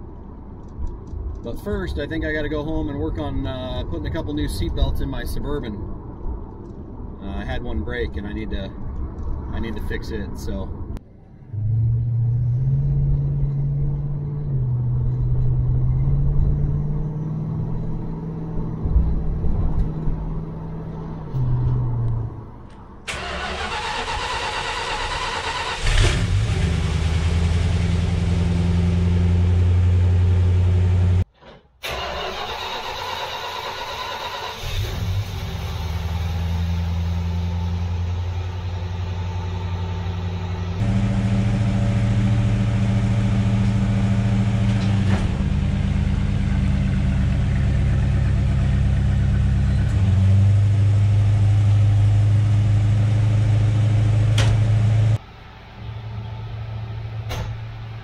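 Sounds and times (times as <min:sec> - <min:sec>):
car engine starting and idling: 0:07.9 - 0:58.0.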